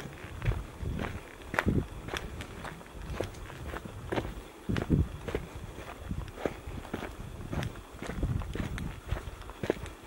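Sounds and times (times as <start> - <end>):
footsteps crunching on forest trail: 0.0 - 10.0.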